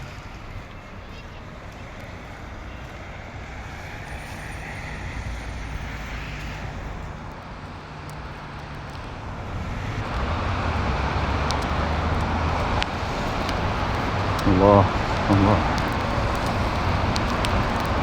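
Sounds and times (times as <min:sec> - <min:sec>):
vehicle passing: 0:00.0 - 0:18.0.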